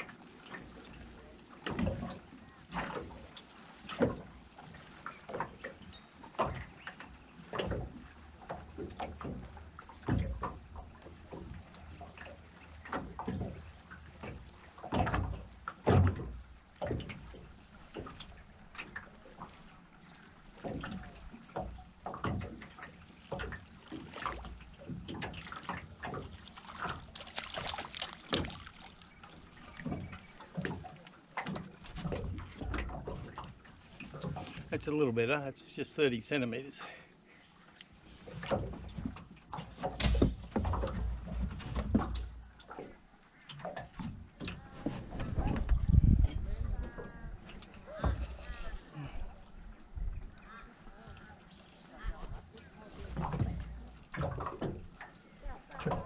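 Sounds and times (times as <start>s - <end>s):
waves lapping against boat hull: 0.0s - 56.0s.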